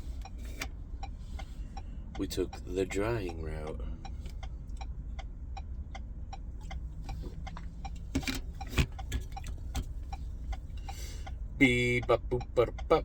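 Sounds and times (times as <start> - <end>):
engine idling hum: 0.0 - 13.0
turn signal clicking: 0.0 - 13.0.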